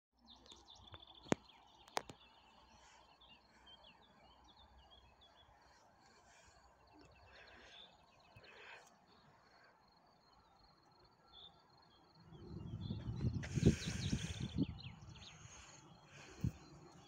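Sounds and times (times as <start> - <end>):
birds chirping: 0.2 - 17.0.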